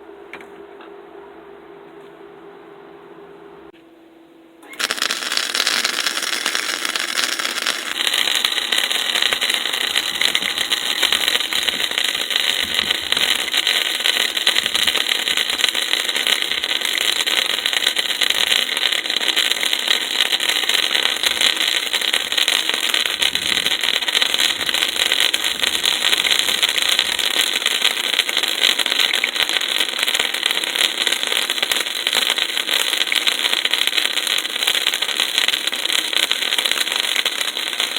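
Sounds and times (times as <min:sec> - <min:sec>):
welding arc crackling: 0:04.6 - 0:37.9.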